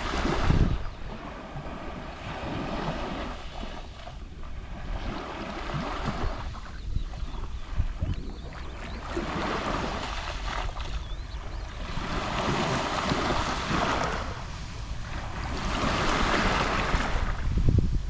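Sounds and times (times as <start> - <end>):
sea waves lapping on shore: 0.0 - 17.6
wind rumble on microphone: 0.0 - 18.0.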